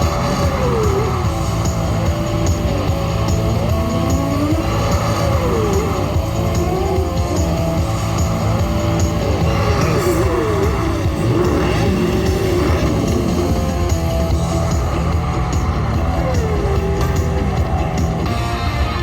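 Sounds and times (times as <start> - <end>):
rock-style slot machine game music: 0.0 - 19.0.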